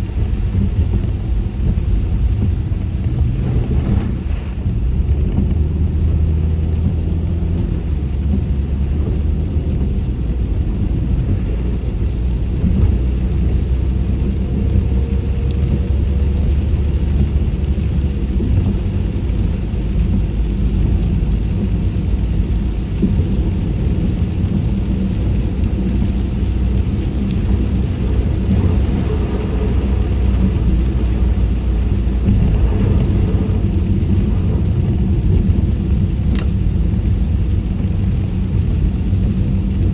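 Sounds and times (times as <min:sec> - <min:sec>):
road rumble inside car: 0:00.0 - 0:39.9.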